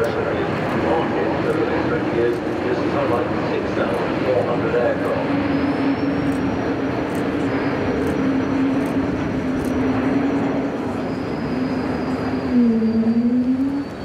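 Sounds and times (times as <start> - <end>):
jet airliner flying past: 0.0 - 14.0.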